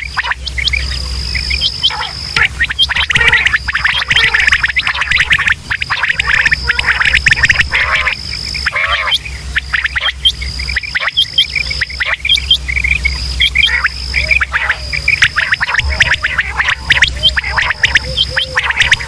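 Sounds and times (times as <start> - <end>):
low hum: 0.0 - 19.0
recorded quail calls: 0.0 - 19.0
steady high-pitched tone: 0.0 - 19.0.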